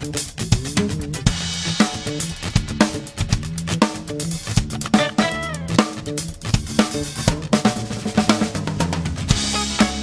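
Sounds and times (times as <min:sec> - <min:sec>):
drum kit beating: 0:00.0 - 0:10.0
electric bass line: 0:00.0 - 0:10.0.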